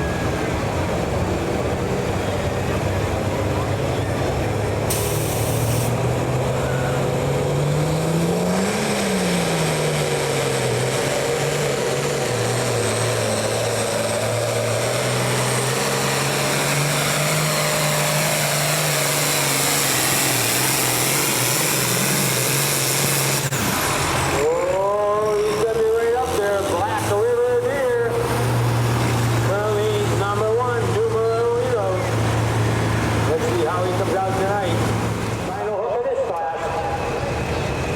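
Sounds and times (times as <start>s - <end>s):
vehicle engine running hard: 0.0s - 37.9s.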